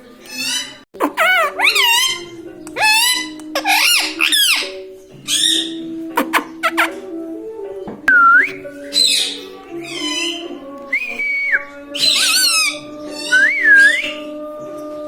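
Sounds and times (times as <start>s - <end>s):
background music: 0.0s - 15.0s
parakeet whistles and trills: 0.3s - 7.0s, 8.4s - 14.3s.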